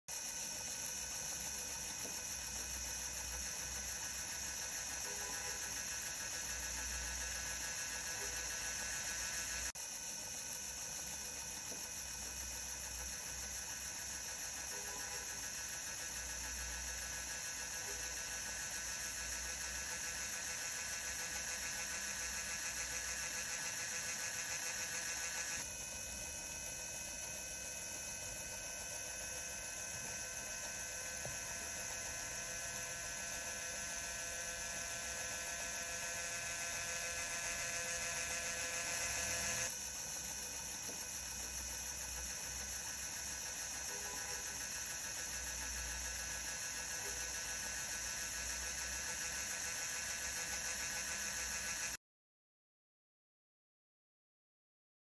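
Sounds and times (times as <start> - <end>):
electric motor whirring: 0.1 - 52.0
thin steady whine: 0.1 - 52.0.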